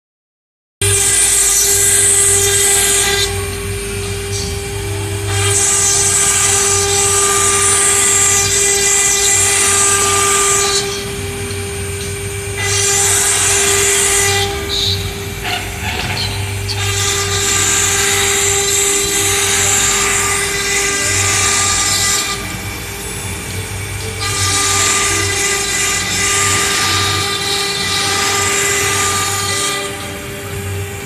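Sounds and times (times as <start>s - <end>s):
spindle whine: 0.8s - 31.0s.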